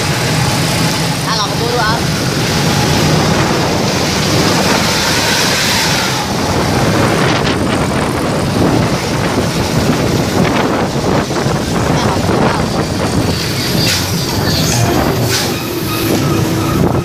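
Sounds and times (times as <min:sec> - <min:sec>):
bus engine rumble: 0:00.0 - 0:17.0
road and wind noise: 0:00.0 - 0:17.0.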